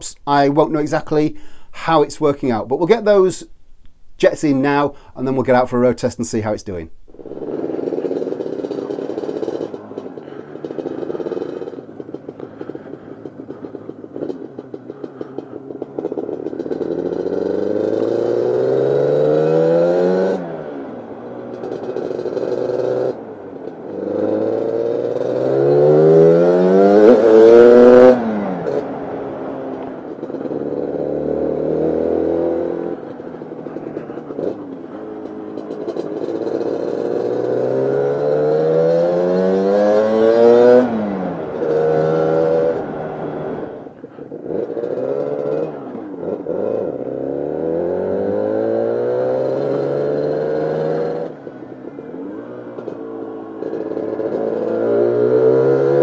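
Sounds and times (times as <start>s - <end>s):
two-stroke scooter engine accelerating: 7.1s - 56.0s.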